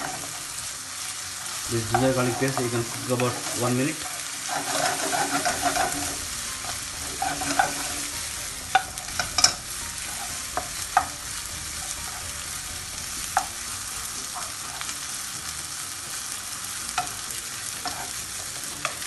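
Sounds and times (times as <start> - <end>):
wooden spatula scraping a pan: 0.0 - 16.4, 17.0 - 19.0
onions sizzling in a pan: 0.0 - 19.0.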